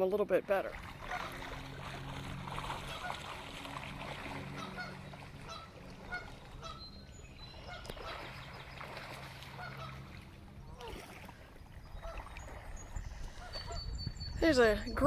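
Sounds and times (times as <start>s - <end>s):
geese honking faintly: 0.8s - 14.4s.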